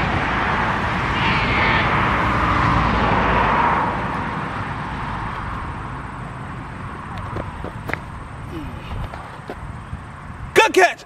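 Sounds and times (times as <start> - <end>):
passing vehicle rushing: 0.0 - 10.4.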